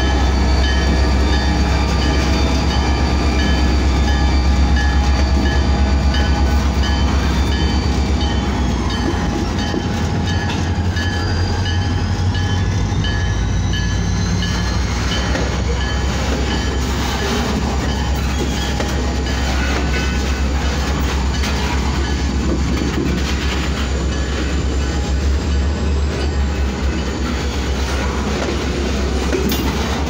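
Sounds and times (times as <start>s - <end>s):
crossing bell ringing: 0.0s - 30.0s
locomotive engine rumble: 0.0s - 30.0s
freight cars clattering on rails: 4.7s - 30.0s.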